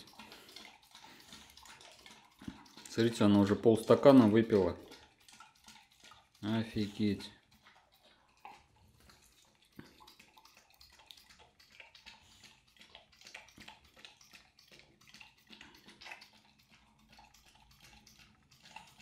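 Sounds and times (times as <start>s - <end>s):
dog lapping liquid: 0.0s - 19.0s.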